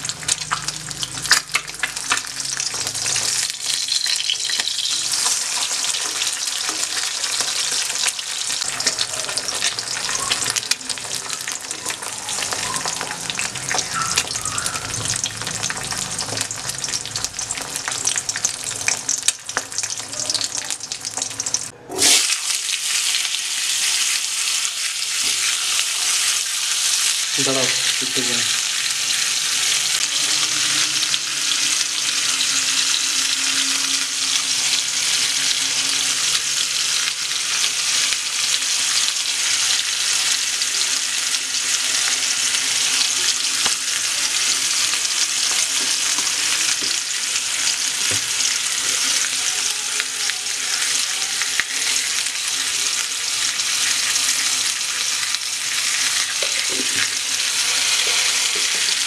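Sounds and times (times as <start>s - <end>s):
potatoes sizzling in hot oil: 0.0s - 59.0s.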